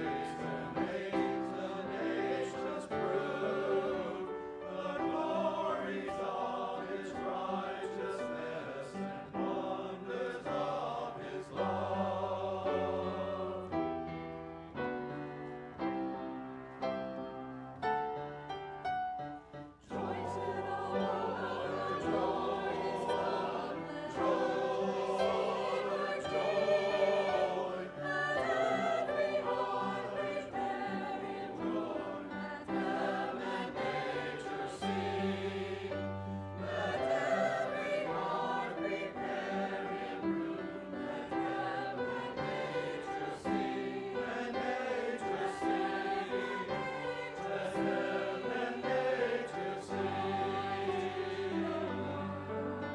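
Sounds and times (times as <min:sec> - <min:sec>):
choir singing: 0:00.0 - 0:52.9
keyboard accompaniment: 0:00.0 - 0:52.9.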